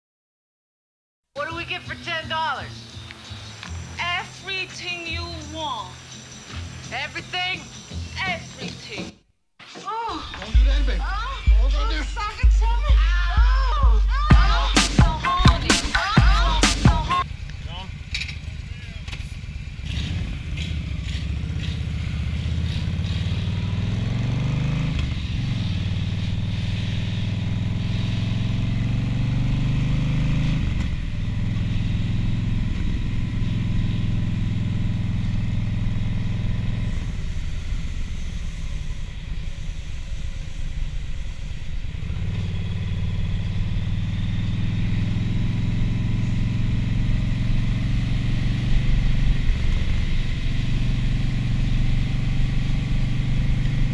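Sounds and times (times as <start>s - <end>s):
motorcycle engine accelerating: 1.4s - 9.2s, 10.2s - 53.9s.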